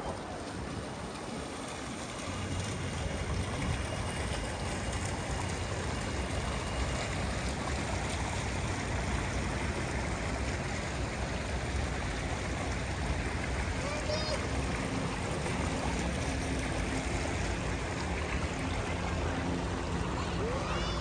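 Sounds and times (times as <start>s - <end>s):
fountain jets splashing into pool: 0.0s - 21.0s.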